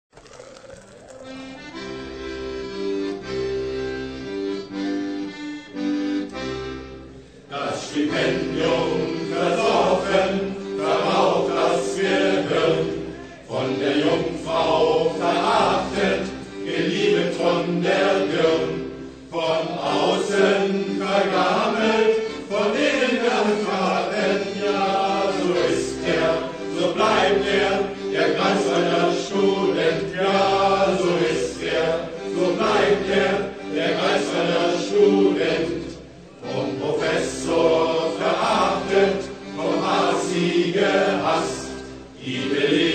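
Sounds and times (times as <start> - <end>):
accordion-led band: 0.2 - 42.9
group singing in chorus: 7.5 - 42.9.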